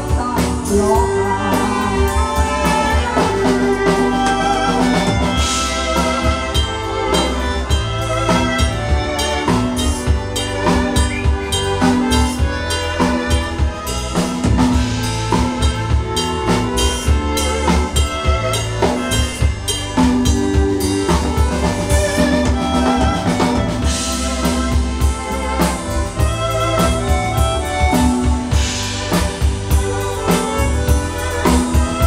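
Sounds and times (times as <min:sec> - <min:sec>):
drum kit beat: 0:00.0 - 0:32.0
electric bass: 0:00.0 - 0:32.0
keyboard: 0:00.0 - 0:32.0.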